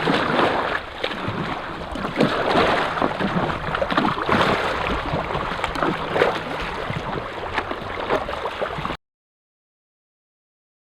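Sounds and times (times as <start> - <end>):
water splashing and lapping: 0.0 - 9.0.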